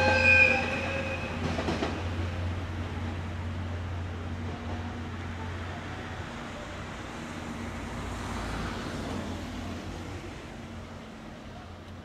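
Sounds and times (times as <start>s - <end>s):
train rumbling away: 0.0s - 11.6s.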